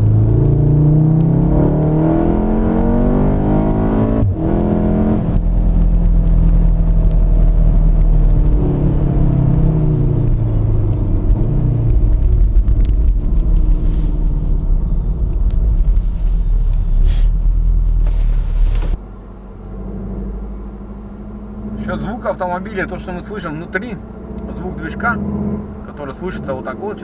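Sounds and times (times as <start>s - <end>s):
car engine running: 0.0s - 27.0s
road rumble: 0.0s - 27.0s.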